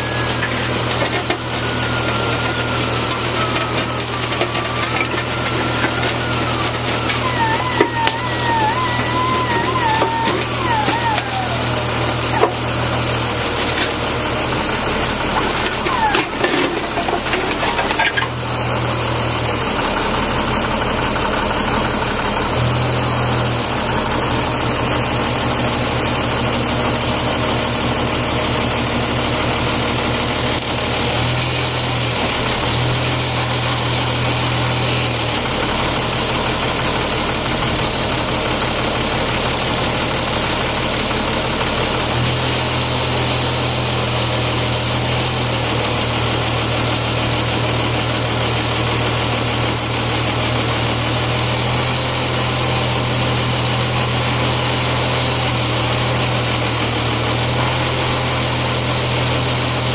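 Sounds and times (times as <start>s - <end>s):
hydraulic crane engine running: 0.0s - 59.9s.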